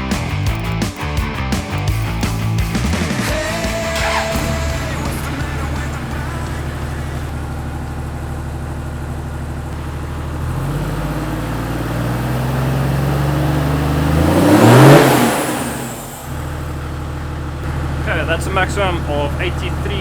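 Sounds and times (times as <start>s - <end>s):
diesel engine idling and revving: 0.0s - 20.0s.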